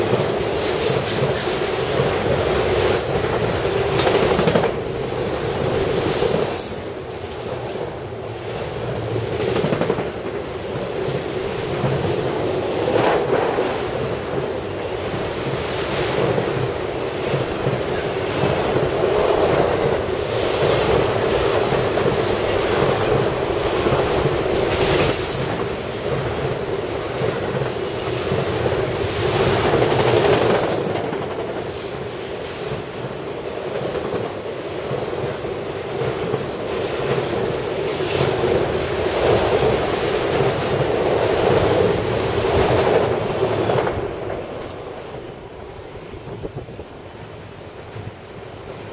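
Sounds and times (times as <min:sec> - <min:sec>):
clickety-clack over rail joints: 0:00.0 - 0:48.9
train wheels on rails: 0:00.0 - 0:48.9.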